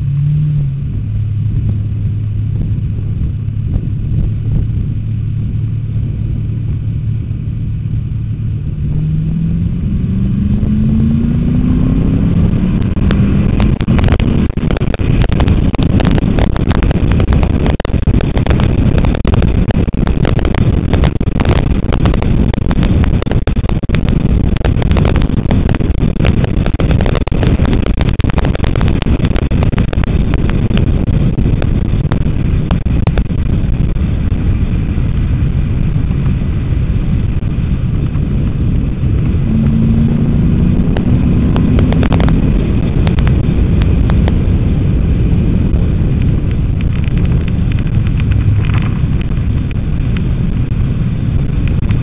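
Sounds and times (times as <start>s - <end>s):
engine crackles: 0.0s - 52.0s
race car engine rumble: 0.0s - 52.0s.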